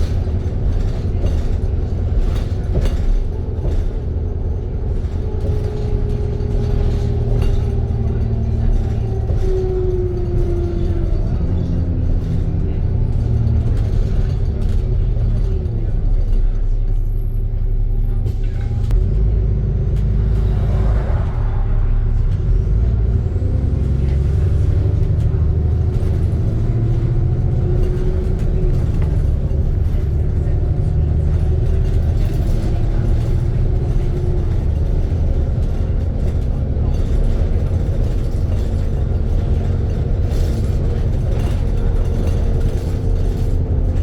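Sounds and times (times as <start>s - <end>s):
bus engine rumble: 0.0s - 44.0s
drivetrain whine: 0.0s - 44.0s.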